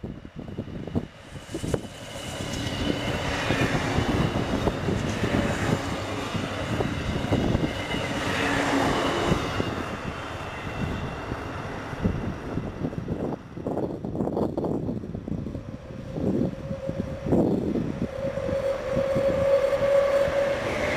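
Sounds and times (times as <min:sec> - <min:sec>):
diesel train passing: 0:00.0 - 0:20.9.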